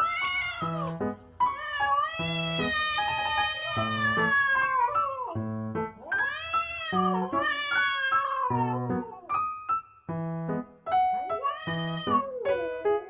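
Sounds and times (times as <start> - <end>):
cat meowing: 0.0 - 9.5, 11.2 - 12.8
piano music: 0.0 - 13.0.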